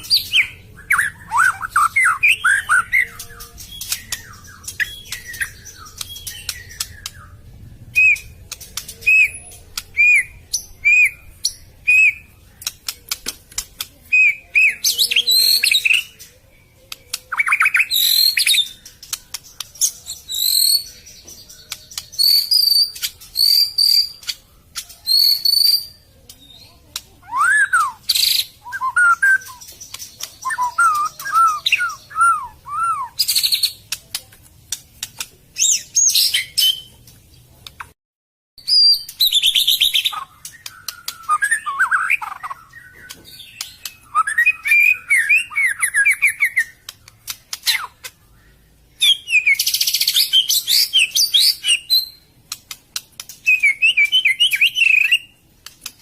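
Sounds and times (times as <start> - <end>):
bird singing varied song: 0.0 - 38.0, 38.6 - 56.0.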